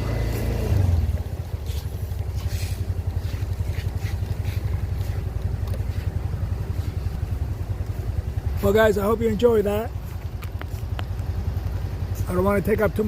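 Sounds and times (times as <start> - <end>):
motorbike engine rumbling: 0.0 - 13.0.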